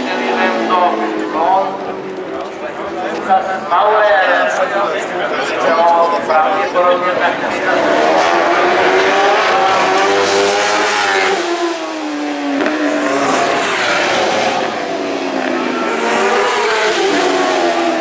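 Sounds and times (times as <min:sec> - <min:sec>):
racing motorcycles passing by: 0:00.0 - 0:18.0.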